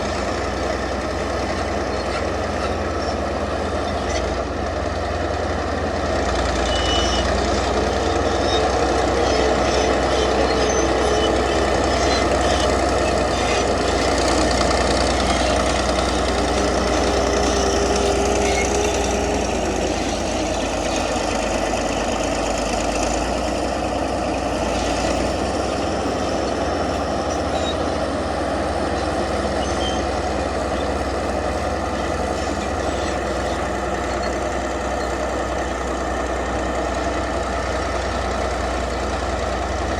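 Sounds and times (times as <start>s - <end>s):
bulldozer diesel engine running: 0.0s - 39.9s
drawn-out whine: 0.0s - 39.9s.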